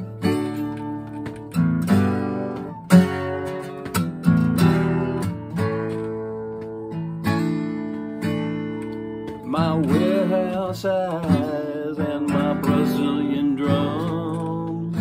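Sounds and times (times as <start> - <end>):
acoustic guitar strummed chords: 0.0 - 15.0.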